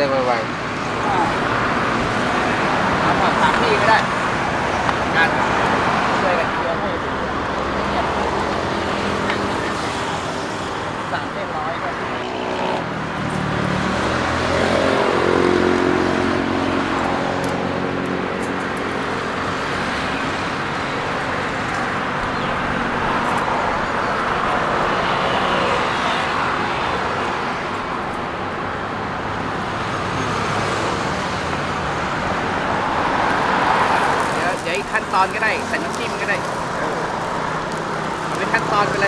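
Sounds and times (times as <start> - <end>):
road traffic noise: 0.0 - 39.0
vehicle engine hum: 0.0 - 39.0.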